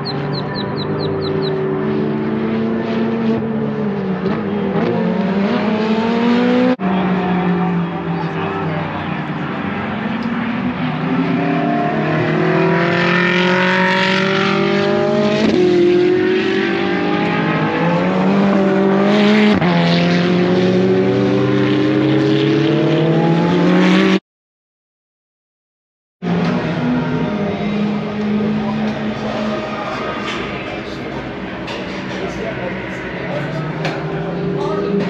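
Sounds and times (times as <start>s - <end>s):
race car engines accelerating hard: 0.0s - 24.2s, 26.2s - 35.0s.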